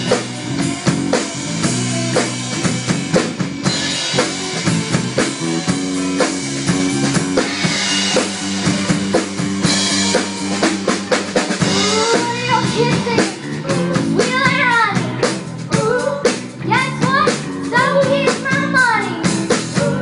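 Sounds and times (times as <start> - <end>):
drum kit beat: 0.0 - 20.0
live band playing: 0.0 - 20.0.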